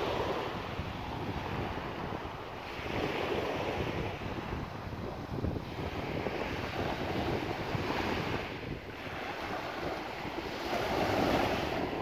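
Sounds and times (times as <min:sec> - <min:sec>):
small waves washing on beach: 0:00.0 - 0:12.0
wind buffeting microphone: 0:00.0 - 0:12.0.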